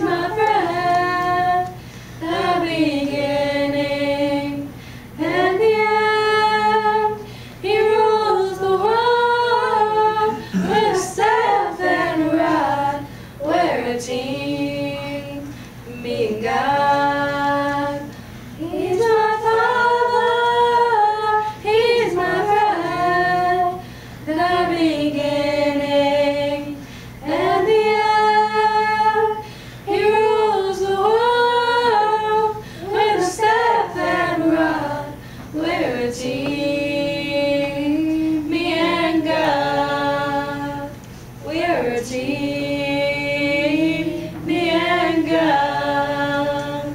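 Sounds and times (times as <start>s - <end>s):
children's choir singing a cappella: 0.0s - 46.9s.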